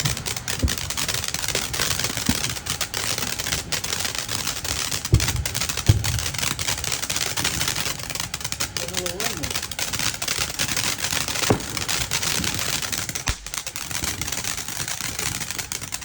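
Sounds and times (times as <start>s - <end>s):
fireworks crackling: 0.0s - 16.0s
heavy fireworks bangs: 0.0s - 16.0s.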